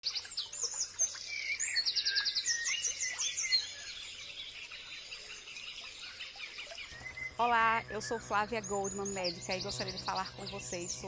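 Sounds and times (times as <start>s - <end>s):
birds singing and calling: 0.1s - 11.0s.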